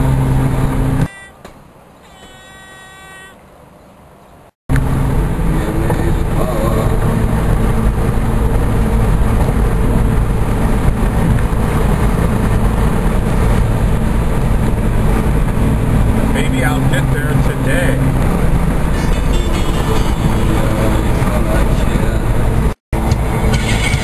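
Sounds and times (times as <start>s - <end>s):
car road and wind noise: 0.0s - 24.0s.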